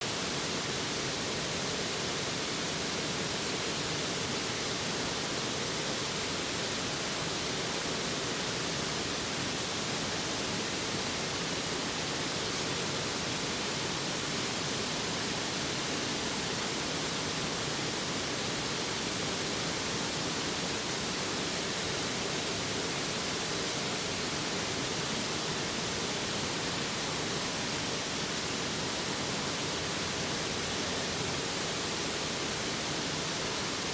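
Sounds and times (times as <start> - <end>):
stream rushing: 0.0 - 33.9.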